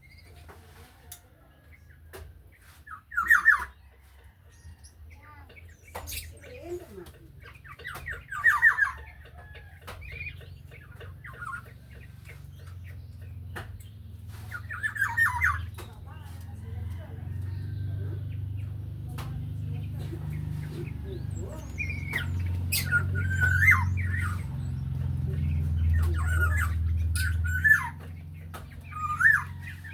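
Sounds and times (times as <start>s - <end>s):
bird singing falling phrases: 0.0s - 0.8s, 1.6s - 29.9s.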